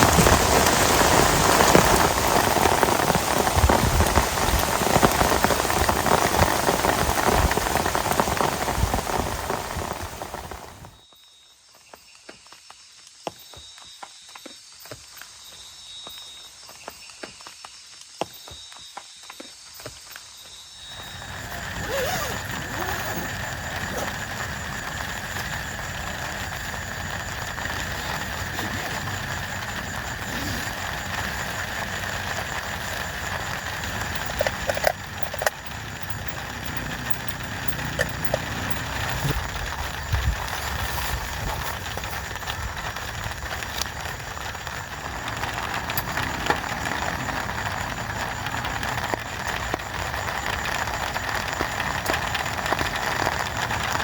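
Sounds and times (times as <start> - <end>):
heavy rain: 0.0 - 11.0, 20.8 - 54.0.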